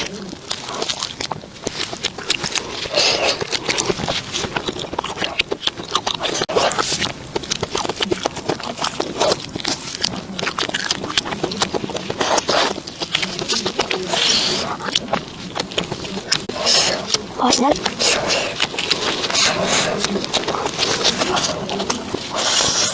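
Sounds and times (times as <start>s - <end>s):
mouth clicks: 0.0s - 22.9s
person chewing crunchy food: 0.0s - 22.9s.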